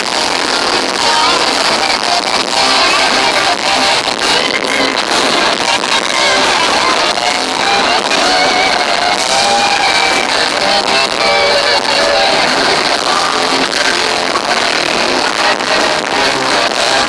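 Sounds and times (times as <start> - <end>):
heavy rock band playing live: 0.0 - 17.0.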